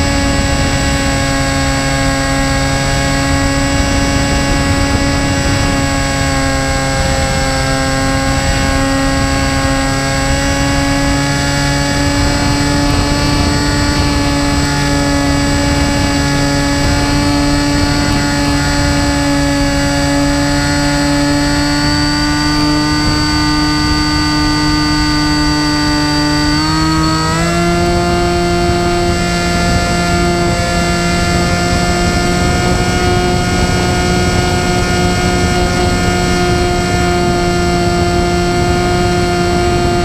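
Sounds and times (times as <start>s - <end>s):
model aircraft motor whine: 0.0s - 40.0s
wind rush: 0.0s - 40.0s.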